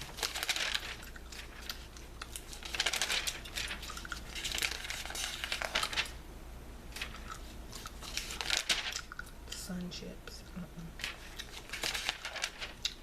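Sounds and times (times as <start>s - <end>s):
magazine pages rustling: 0.0s - 6.2s, 6.9s - 9.2s, 11.0s - 13.0s
paper clicks: 0.0s - 6.2s, 7.0s - 9.6s, 11.0s - 13.0s.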